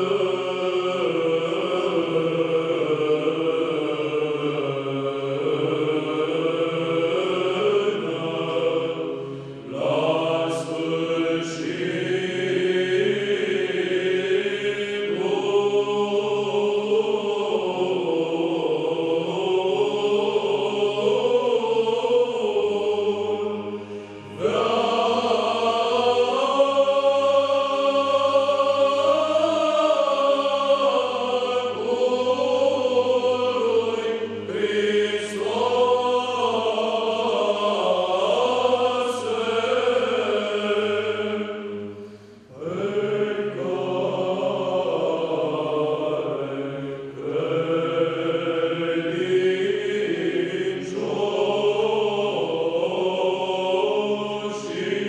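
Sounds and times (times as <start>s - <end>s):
low held vocal drone: 0.0s - 55.0s
male choir chanting a cappella: 0.0s - 55.0s.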